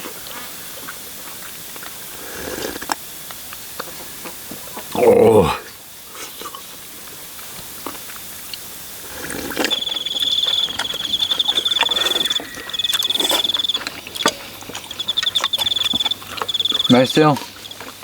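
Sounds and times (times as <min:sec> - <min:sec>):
cricket trilling: 0:00.8 - 0:18.0.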